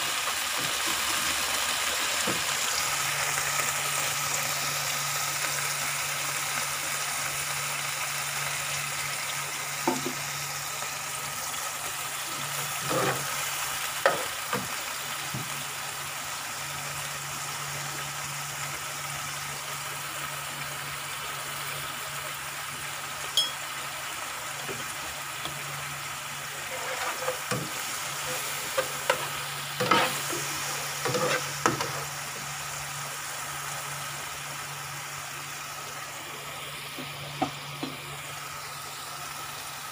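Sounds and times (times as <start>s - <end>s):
sauce sizzling in a frying pan: 0.0s - 39.9s.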